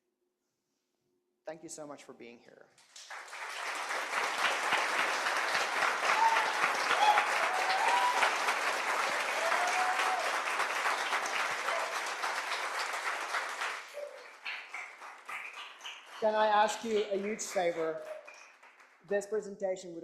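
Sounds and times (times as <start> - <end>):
audience clapping: 2.8 - 19.5.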